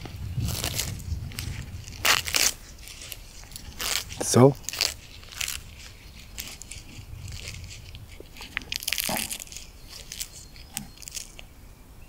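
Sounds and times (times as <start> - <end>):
husk tearing rip: 0.0 - 11.4
corn husks crackling and rustling: 0.0 - 11.5.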